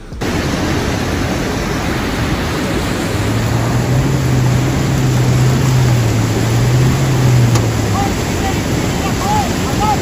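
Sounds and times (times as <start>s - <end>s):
low vehicle engine drone: 0.0s - 10.0s
river water rushing: 0.2s - 10.0s.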